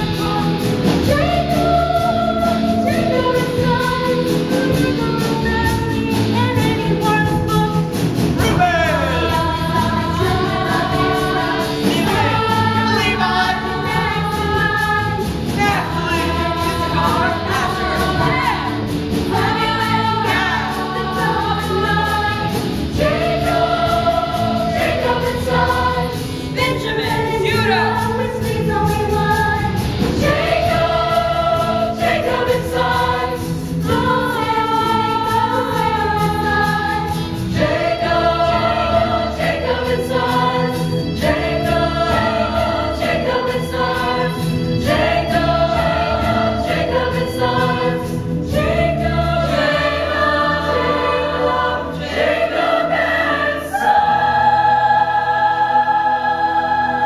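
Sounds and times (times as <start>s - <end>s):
musical accompaniment: 0.0s - 57.0s
cast singing a chorus: 8.4s - 57.0s.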